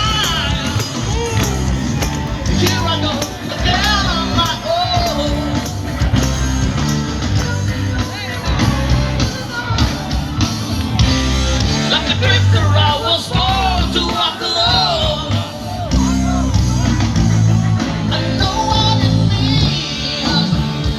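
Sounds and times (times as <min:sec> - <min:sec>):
lead singer singing: 0:00.0 - 0:20.9
live rock band playing: 0:00.0 - 0:20.9.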